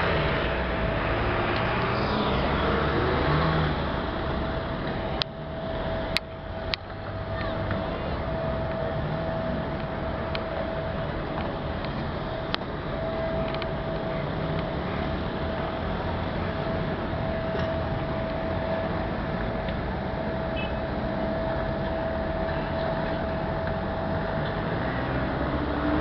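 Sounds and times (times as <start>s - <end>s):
ferry engines rumbling: 0.0s - 26.0s
thin whine: 0.0s - 26.0s
vehicles driving off ferry: 0.0s - 26.0s.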